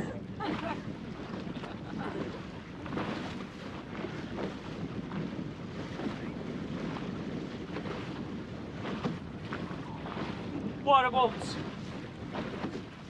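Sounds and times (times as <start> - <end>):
water splashing along boat hull: 0.0 - 13.0
wind on microphone: 0.0 - 13.0.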